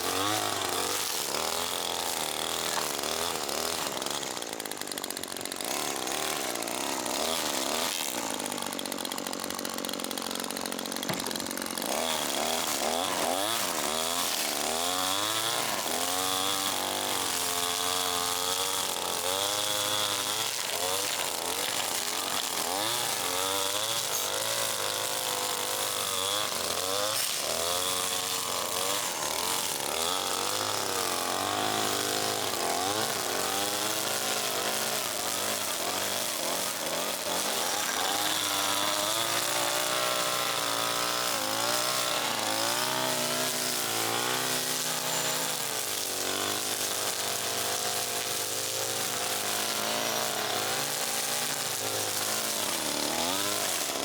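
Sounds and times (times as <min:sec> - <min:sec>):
chainsaw cutting limbs: 0:00.0 - 0:54.0.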